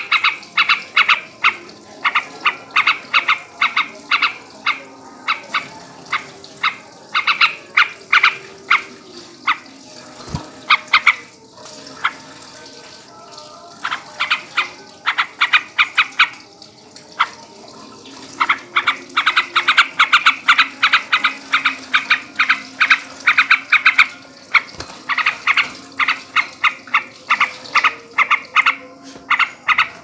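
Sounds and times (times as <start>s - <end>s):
bulbul singing chattering song: 0.0s - 30.0s.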